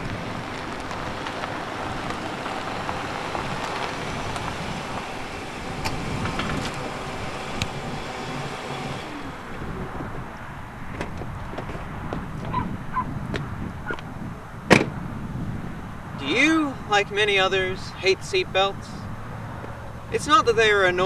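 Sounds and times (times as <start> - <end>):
car tyres on gravel: 0.0 - 21.0.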